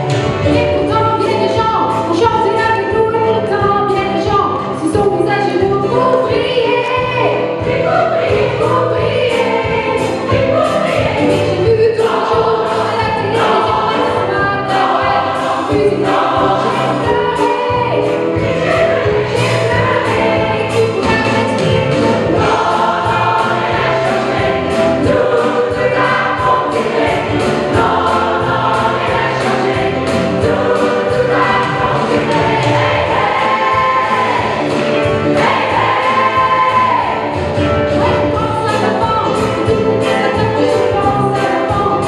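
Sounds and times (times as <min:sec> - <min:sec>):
choir singing pop: 0:00.0 - 0:42.0
band with steady beat: 0:07.6 - 0:42.0.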